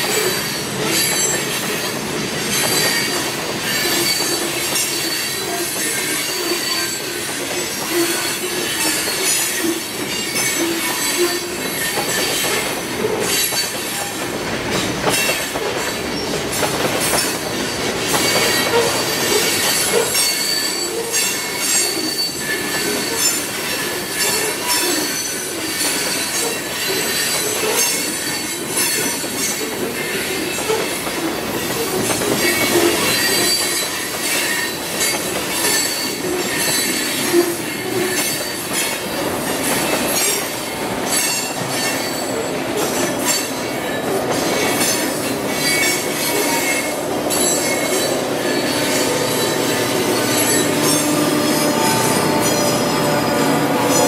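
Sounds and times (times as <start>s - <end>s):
freight train rumble and clatter: 0.0s - 54.0s
train wheels squealing on rails: 0.0s - 54.0s.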